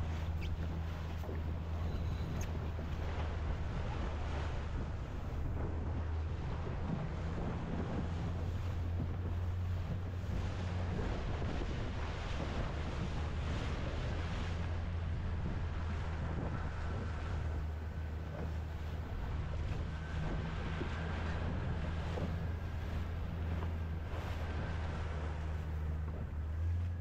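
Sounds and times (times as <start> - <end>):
steady low hum: 0.0 - 27.0
water rushing past boat: 0.0 - 27.0
wind buffeting microphone: 0.0 - 27.0.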